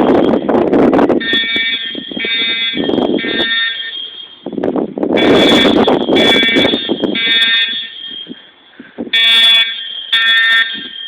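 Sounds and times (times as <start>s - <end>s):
fire alarm horns buzzing: 0.0s - 0.6s, 1.2s - 11.0s.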